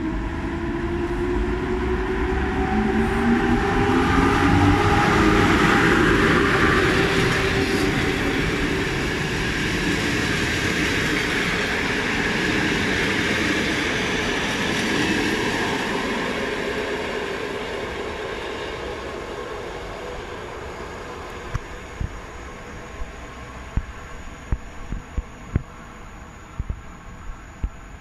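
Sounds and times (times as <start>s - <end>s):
electric locomotive whine: 0.0s - 28.0s
train wheels rumbling on rails: 0.0s - 28.0s.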